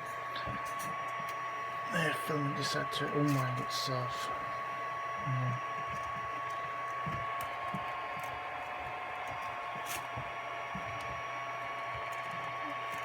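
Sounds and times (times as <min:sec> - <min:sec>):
cooling fan whirring: 0:00.0 - 0:13.0.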